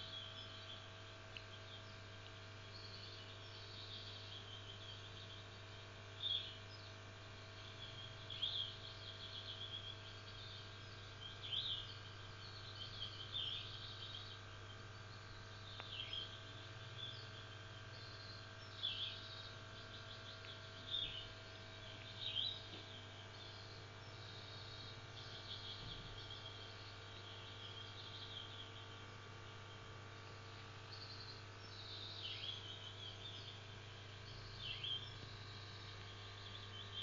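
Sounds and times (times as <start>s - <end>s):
aquarium air pump humming: 0.0s - 37.0s
bird chirps and trills: 0.0s - 37.0s.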